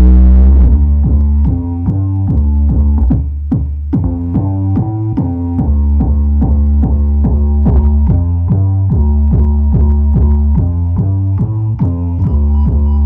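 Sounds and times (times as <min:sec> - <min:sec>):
bass-heavy electronic music: 0:00.0 - 0:13.0.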